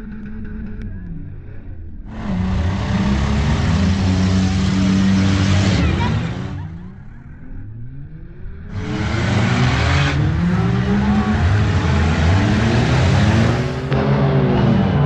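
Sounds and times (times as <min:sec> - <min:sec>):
car engines revving: 0:02.1 - 0:15.0.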